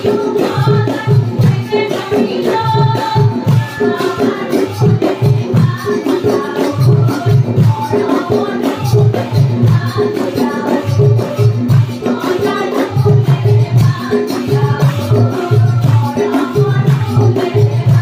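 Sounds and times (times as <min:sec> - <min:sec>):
hand-played barrel drum: 0:00.0 - 0:18.0
jingling percussion: 0:00.0 - 0:18.0.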